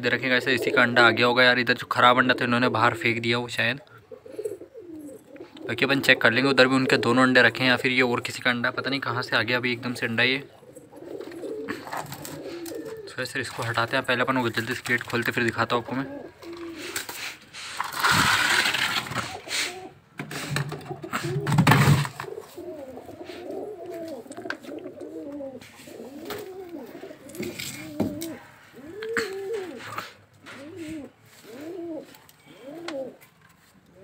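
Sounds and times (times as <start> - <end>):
pigeons cooing: 0.0 - 17.3, 18.1 - 33.3.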